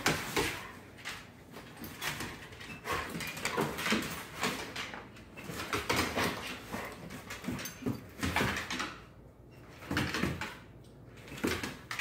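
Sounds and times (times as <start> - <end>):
dogs scuffling on wooden floor: 0.0 - 12.0.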